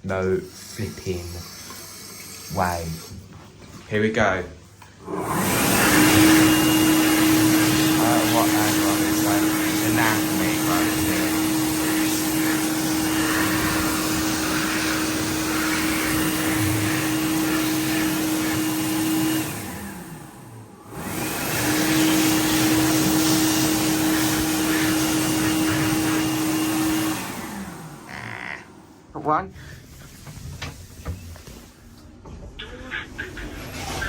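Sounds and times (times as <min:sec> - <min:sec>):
hand dryer blowing: 0:00.0 - 0:03.3, 0:05.0 - 0:32.0, 0:33.0 - 0:34.0.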